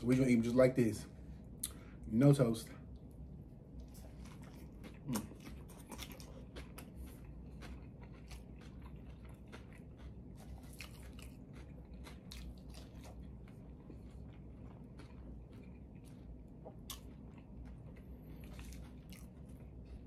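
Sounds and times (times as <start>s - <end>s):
wet chewing crunches: 3.7s - 20.0s.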